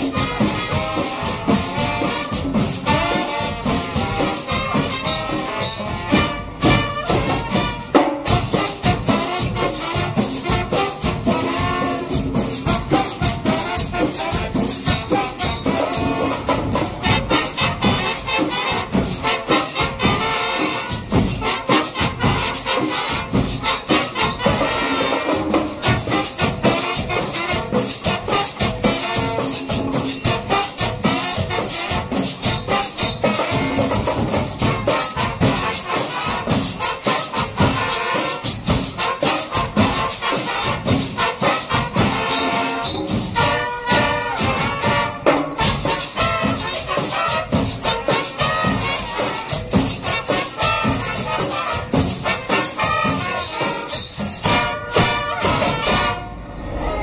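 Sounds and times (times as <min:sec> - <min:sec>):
bass drums: 0:00.0 - 0:53.4
snare drums: 0:00.0 - 0:57.0
trumpets and trombones: 0:00.0 - 0:57.0.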